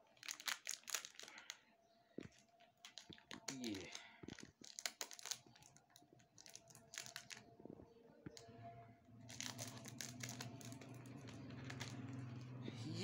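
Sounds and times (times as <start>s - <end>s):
cellophane crinkling and tearing: 0.0s - 7.5s, 9.2s - 12.5s.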